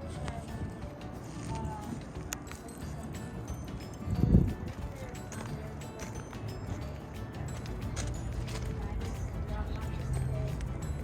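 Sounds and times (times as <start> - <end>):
indistinct background music: 0.0 - 11.0.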